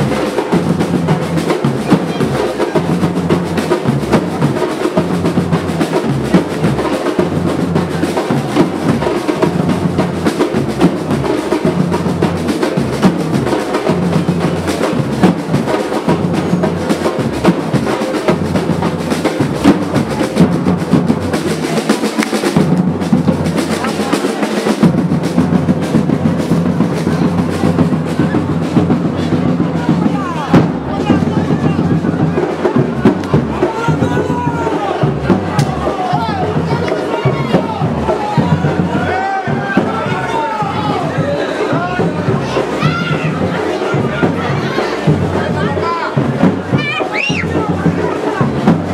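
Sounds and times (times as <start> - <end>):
drums playing fast beat: 0.0 - 48.9.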